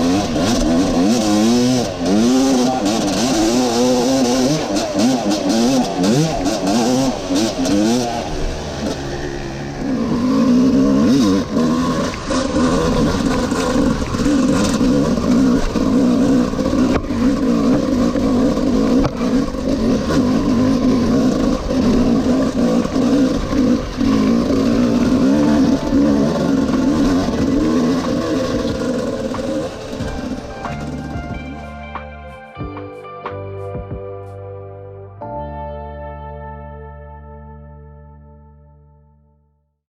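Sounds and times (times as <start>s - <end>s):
motorcycle engine revving: 0.0s - 32.2s.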